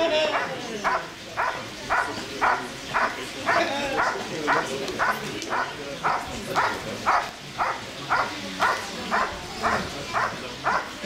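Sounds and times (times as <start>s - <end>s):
dog barking sharply: 0.4s - 11.0s.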